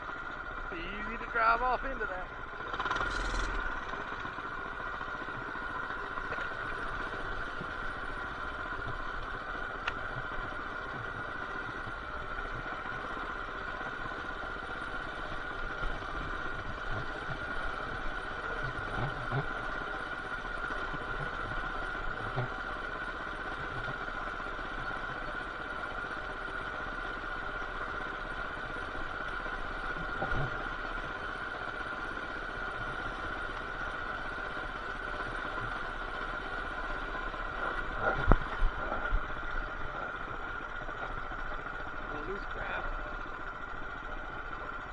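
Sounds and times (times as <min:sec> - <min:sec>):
small engine running steadily: 0:00.0 - 0:44.9.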